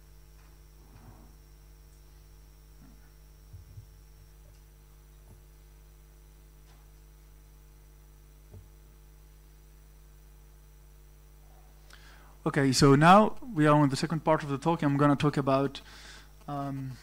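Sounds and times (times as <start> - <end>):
faint mains hum: 0.0 - 17.0.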